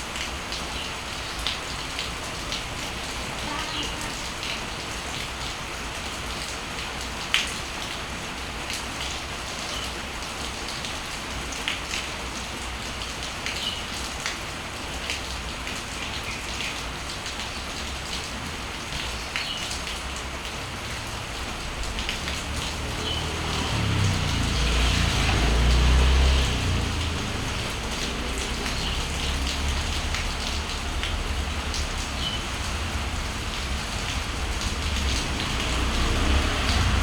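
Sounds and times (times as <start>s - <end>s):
raindrops tapping on surfaces: 0.0s - 37.0s
steady rain: 0.0s - 37.0s.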